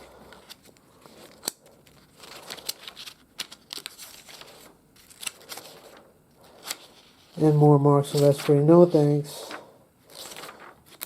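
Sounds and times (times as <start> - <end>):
comic book pages rustling: 0.0 - 11.0.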